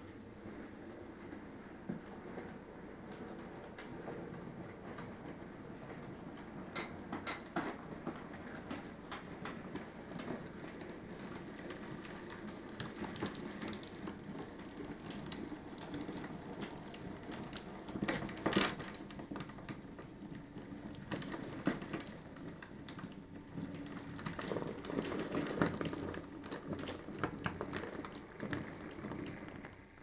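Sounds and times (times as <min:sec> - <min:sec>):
low steady hum: 0:00.0 - 0:30.0
model train wheels clattering: 0:00.0 - 0:30.0.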